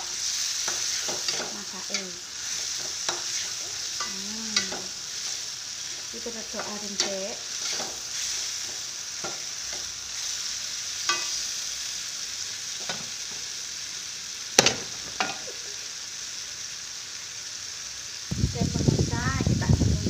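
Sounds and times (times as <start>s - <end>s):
chili paste sizzling in wok: 0.0s - 20.0s.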